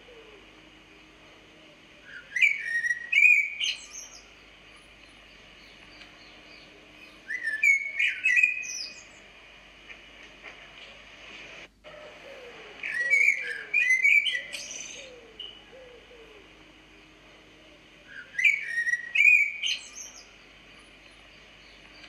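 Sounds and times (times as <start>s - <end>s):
bird singing: 0.0s - 9.4s, 11.9s - 22.0s.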